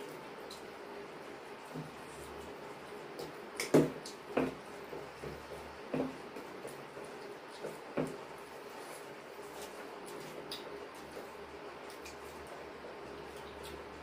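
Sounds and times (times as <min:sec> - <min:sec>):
wet squishing of rice: 0:00.0 - 0:14.0.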